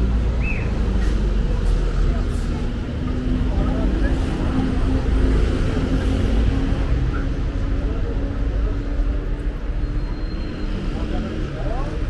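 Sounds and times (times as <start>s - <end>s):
road traffic rumble: 0.0s - 12.0s
steady engine hum: 0.0s - 12.0s.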